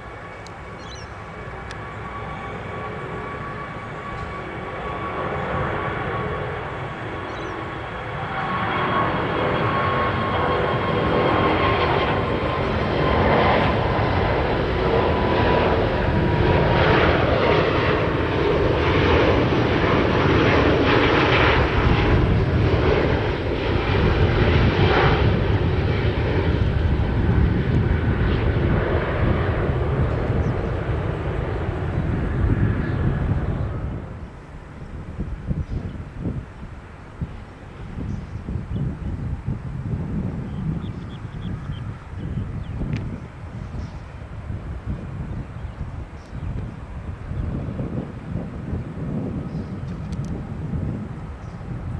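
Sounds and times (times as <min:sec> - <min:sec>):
jet aircraft taking off: 0:00.0 - 0:51.9.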